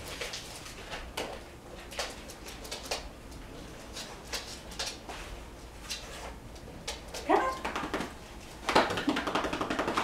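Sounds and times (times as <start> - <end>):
puppy claws clicking on floor: 0.0 - 5.0, 5.8 - 10.0.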